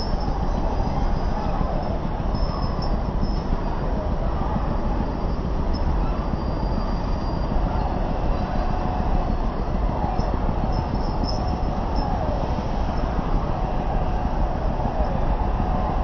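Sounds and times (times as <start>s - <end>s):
highway traffic rumble: 0.0s - 16.0s.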